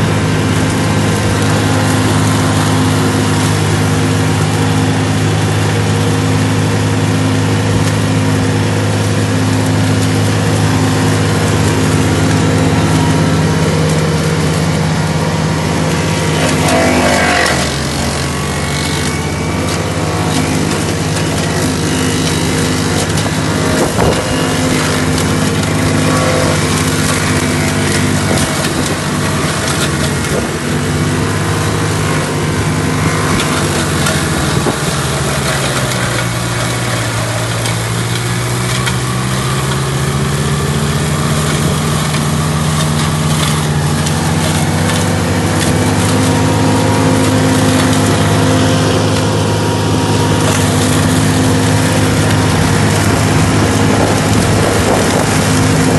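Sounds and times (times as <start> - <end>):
flail mower spinning and chopping: 0.0 - 55.9
skid steer engine running hard: 0.0 - 55.9.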